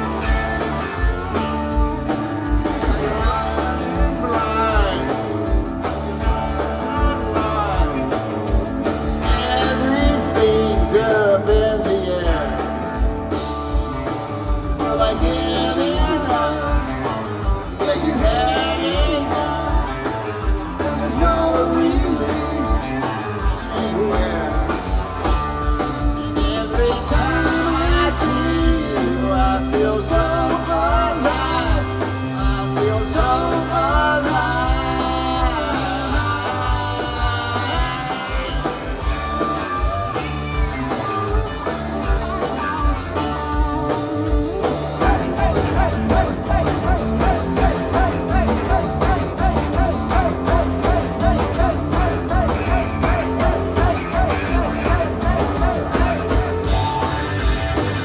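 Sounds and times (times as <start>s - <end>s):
bass guitar: 0.0s - 58.0s
drum beat: 0.0s - 58.0s
electric guitar lead: 0.0s - 58.0s.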